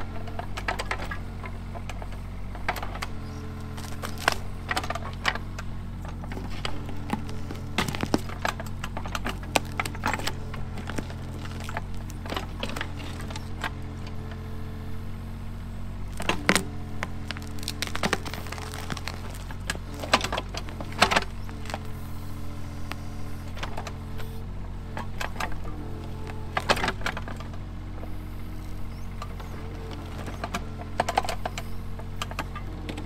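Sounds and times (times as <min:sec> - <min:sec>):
excavator diesel engine running: 0:00.0 - 0:33.0
roots and wood cracking: 0:02.6 - 0:14.8, 0:16.0 - 0:24.3, 0:24.9 - 0:27.6, 0:29.2 - 0:33.0.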